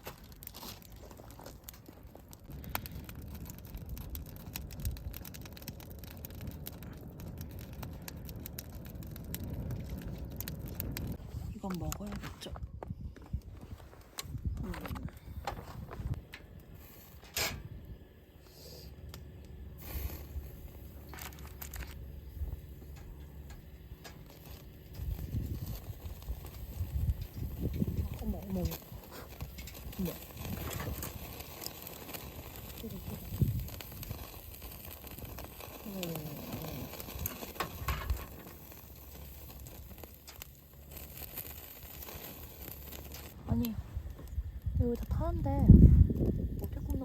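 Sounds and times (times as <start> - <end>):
grill fire crackling: 0.0 - 47.0
steady low rumble: 0.0 - 47.0.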